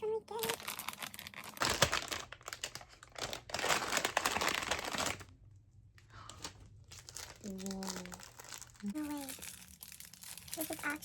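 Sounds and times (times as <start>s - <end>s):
wrapper crinkling and rustling: 0.3s - 5.4s, 6.1s - 11.0s.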